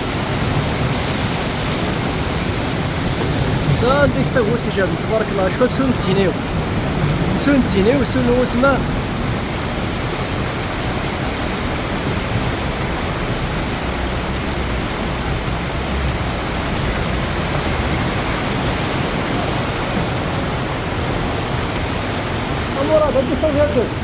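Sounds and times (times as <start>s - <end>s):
heavy rain pouring: 0.0s - 24.0s
running water: 0.0s - 24.0s.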